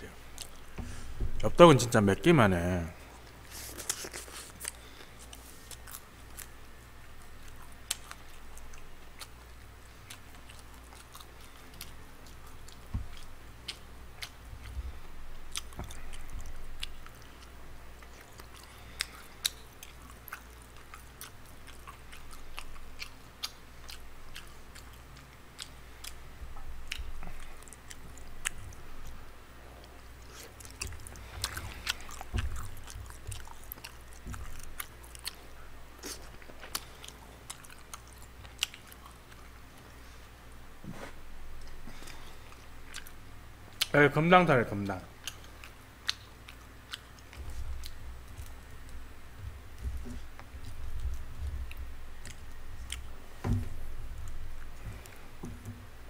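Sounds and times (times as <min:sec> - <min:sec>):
person chewing and biting: 0:03.1 - 0:29.2, 0:29.9 - 0:40.1, 0:40.9 - 0:43.9, 0:45.2 - 0:55.9.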